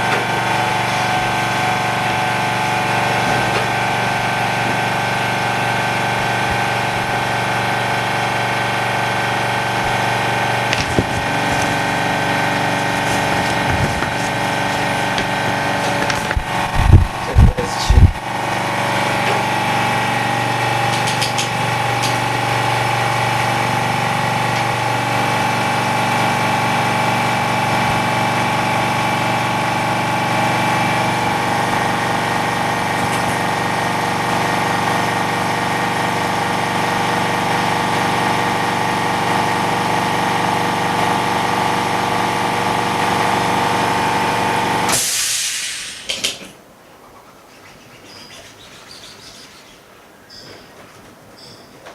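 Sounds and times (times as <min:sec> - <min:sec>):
machine humming: 0:00.0 - 0:45.1.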